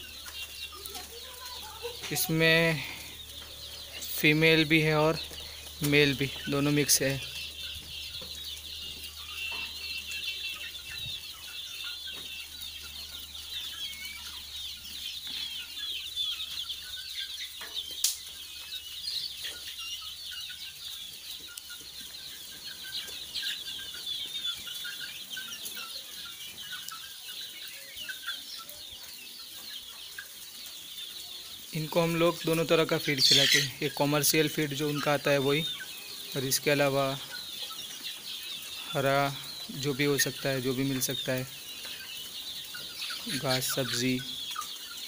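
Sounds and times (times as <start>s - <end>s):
chicks cheeping: 0.0s - 45.0s.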